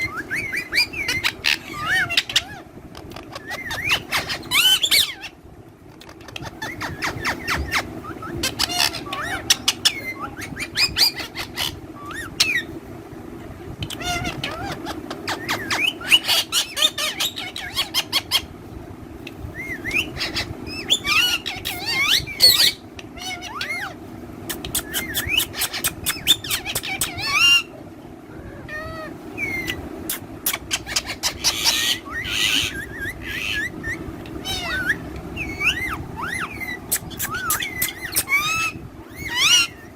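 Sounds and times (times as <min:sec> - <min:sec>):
parrots chirping and squawking: 0:00.0 - 0:12.8, 0:13.8 - 0:39.9
steady low hum: 0:00.0 - 0:39.9.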